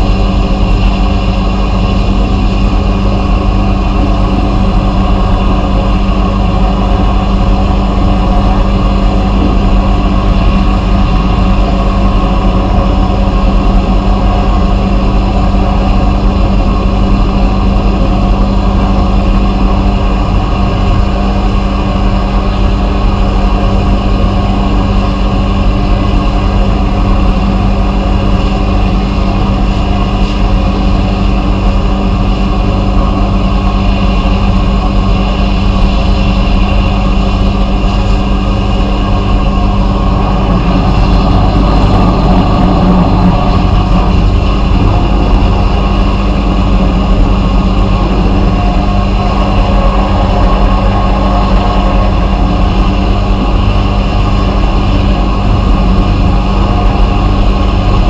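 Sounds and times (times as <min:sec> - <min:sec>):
blasting machine hum with hiss: 0:00.0 - 0:58.0.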